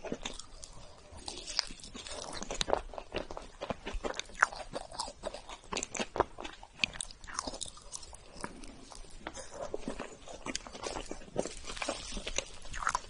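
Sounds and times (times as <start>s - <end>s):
chewing cake with mouth clicks: 0.0s - 13.0s.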